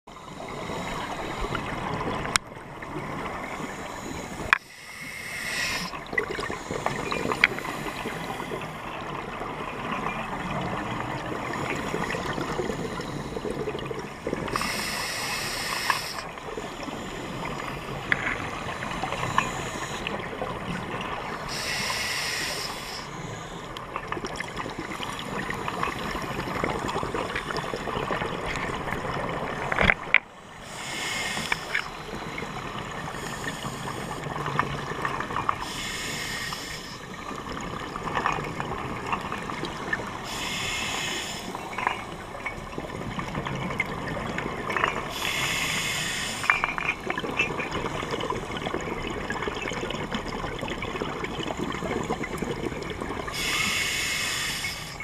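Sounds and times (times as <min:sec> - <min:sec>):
steady underwater hiss: 0:00.1 - 0:55.0.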